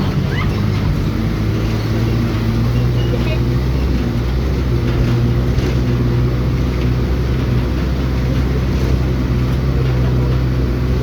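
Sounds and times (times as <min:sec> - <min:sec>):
road and wind noise: 0:00.0 - 0:11.0
vehicle engine running: 0:00.0 - 0:11.0.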